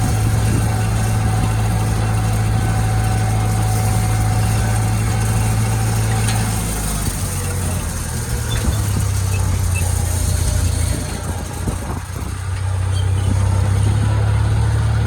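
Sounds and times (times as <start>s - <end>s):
tractor engine humming: 0.0s - 15.0s.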